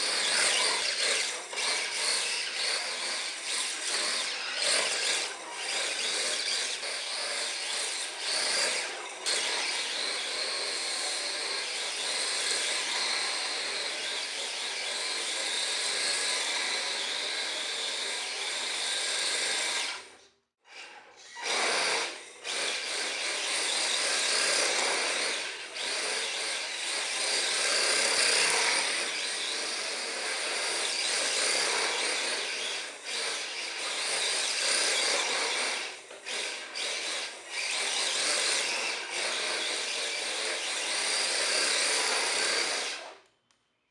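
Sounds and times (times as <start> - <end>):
electric toy car motor whirring: 0.0 - 43.3.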